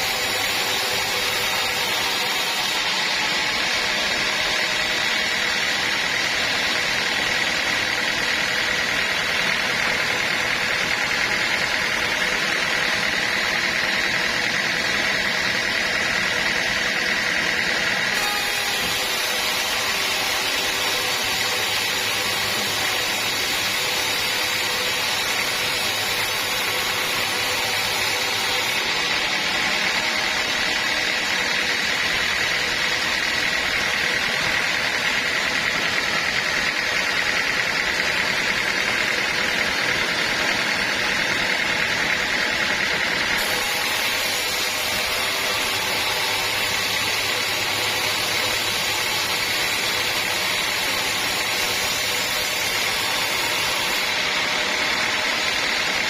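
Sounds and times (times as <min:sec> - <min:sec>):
high machine whine: 0:00.0 - 0:56.0
sawmill machinery running: 0:00.0 - 0:56.0.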